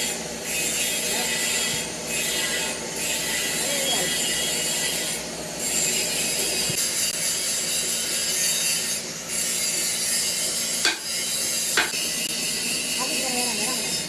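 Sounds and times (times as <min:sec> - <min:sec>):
metalworking machinery rasping: 0:00.0 - 0:14.0.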